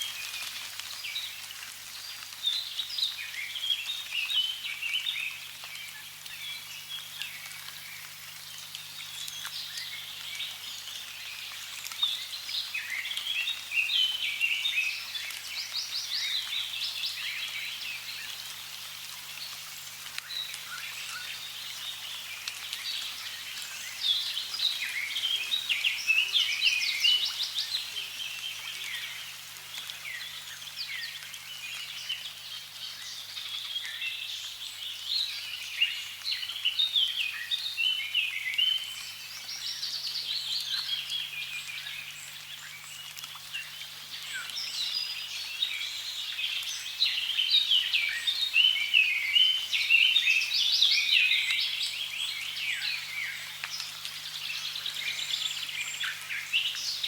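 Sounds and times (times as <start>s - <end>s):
running water hiss: 0.0s - 57.0s
songbirds chirping and trilling: 0.0s - 57.0s.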